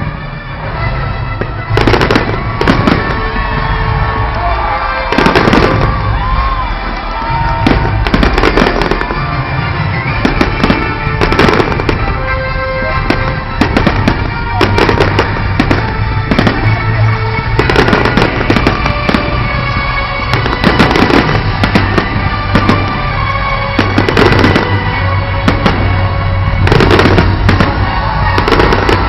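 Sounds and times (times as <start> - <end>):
fireworks bursting and crackling: 0.0 - 29.0
loud music with steady bass: 0.0 - 29.0.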